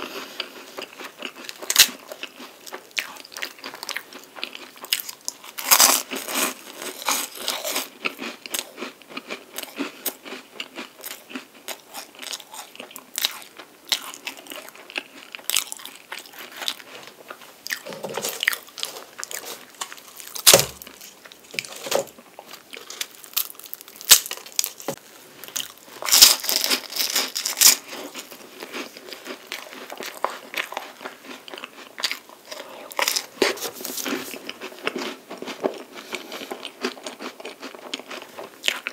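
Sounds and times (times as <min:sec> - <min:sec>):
crunching and chewing pastry: 0:00.0 - 0:38.9.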